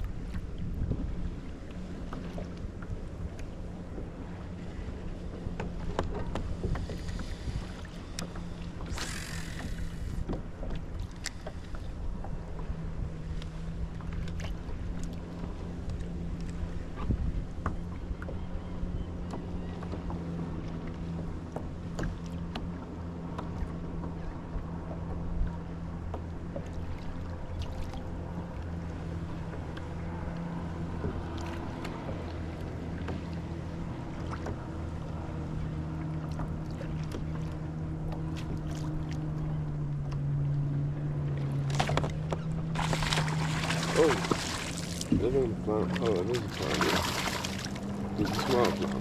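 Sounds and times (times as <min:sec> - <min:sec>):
motor drive humming: 0:03.0 - 0:23.5, 0:28.1 - 0:49.0.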